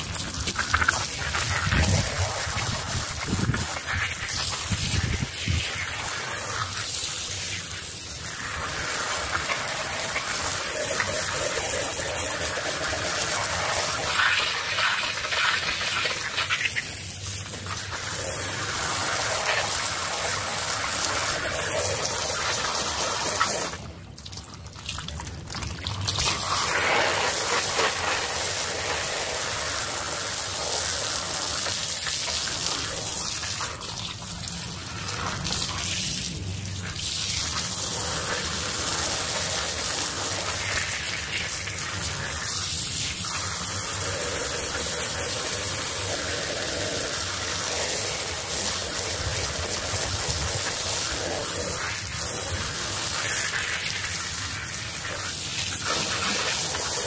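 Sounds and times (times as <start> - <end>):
water spraying onto rug: 0.0 - 57.0.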